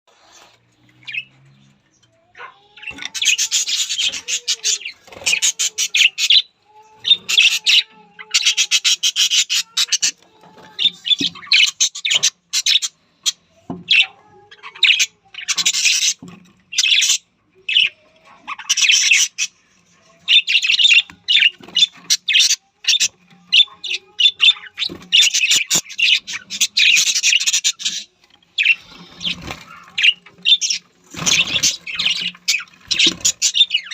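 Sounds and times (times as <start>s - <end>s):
parrots chattering: 2.2s - 33.9s.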